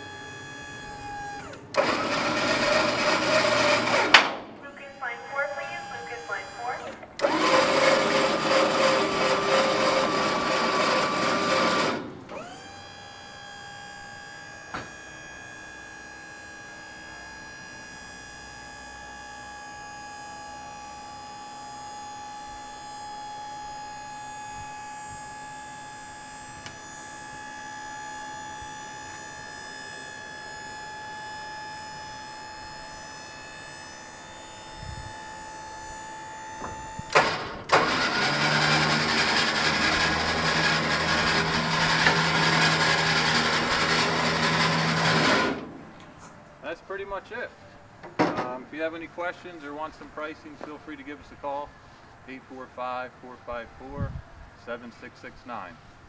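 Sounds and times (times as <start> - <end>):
hydraulic power unit whining: 0.0 - 52.0.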